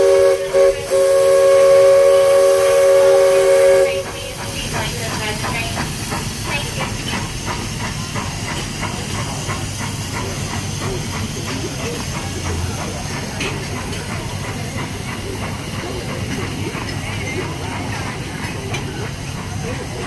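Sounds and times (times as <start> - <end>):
steam train hiss: 0.0 - 20.0
train wheels clacking: 0.0 - 20.0.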